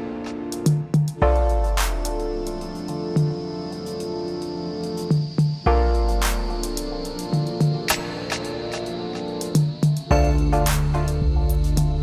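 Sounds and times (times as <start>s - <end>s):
light percussion: 0.0s - 4.2s, 5.0s - 12.0s
instrumental background music: 0.0s - 12.0s.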